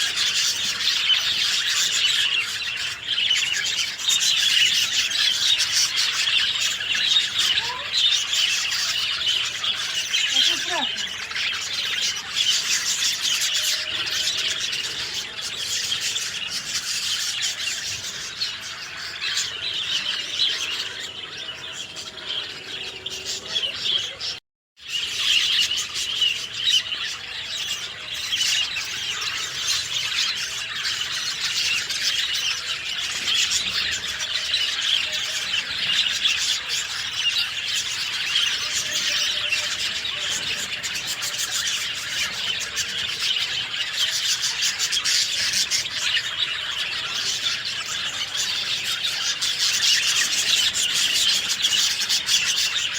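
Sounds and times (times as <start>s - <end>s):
songbirds chirping and twittering: 0.0s - 52.9s.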